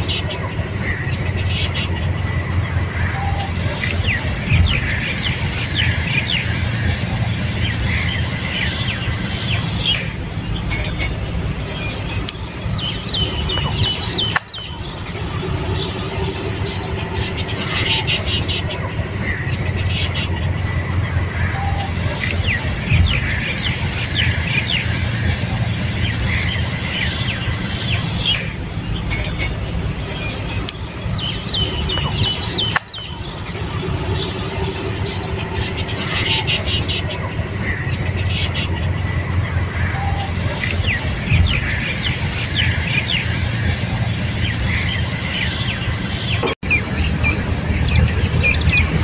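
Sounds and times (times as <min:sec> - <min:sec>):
small birds chirping: 0:00.0 - 0:49.0
steady low rumble: 0:00.0 - 0:49.0.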